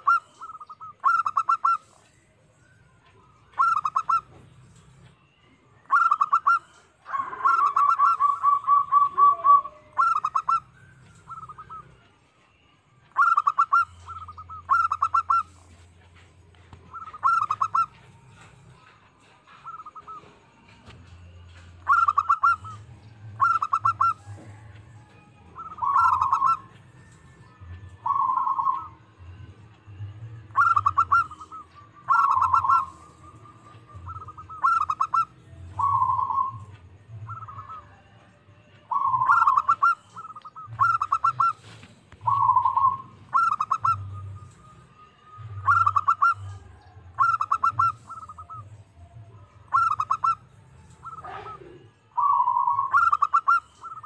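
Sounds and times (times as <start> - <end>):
dove cooing: 0.0 - 12.0, 13.1 - 54.0.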